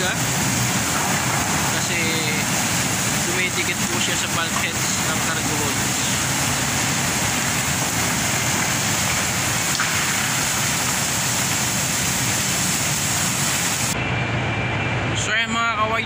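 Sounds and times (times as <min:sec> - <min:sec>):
coal pouring into steel hold: 0:00.0 - 0:14.0
steady low hum: 0:00.0 - 0:16.0.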